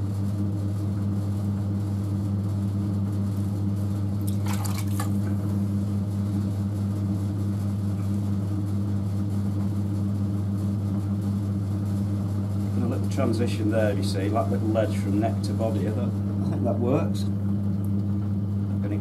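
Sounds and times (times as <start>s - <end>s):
potter's wheel humming: 0.0s - 19.0s.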